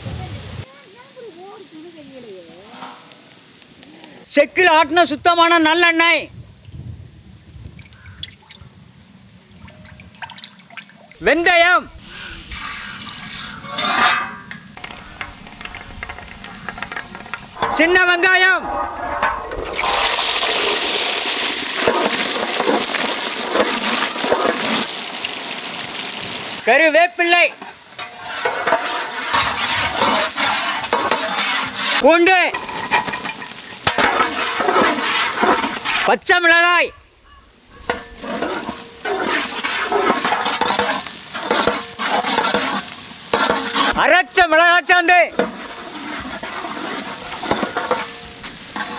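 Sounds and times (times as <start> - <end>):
onions sizzling in oil: 0.0 - 6.2, 7.9 - 48.9.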